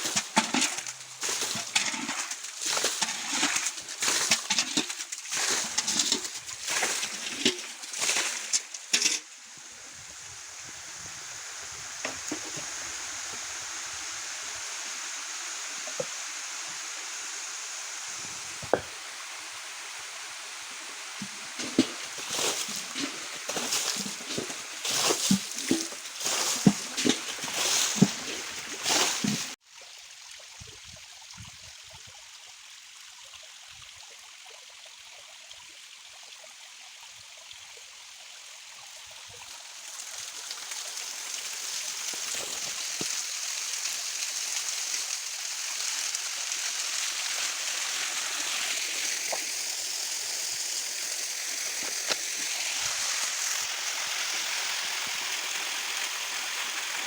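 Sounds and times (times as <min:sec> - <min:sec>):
stream trickling: 0:00.0 - 0:57.0.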